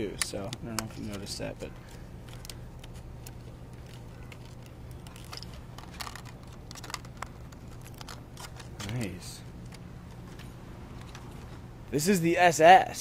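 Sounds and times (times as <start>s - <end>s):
steady low hum: 0.0s - 13.0s
plastic package clicks and crackles: 0.2s - 11.2s.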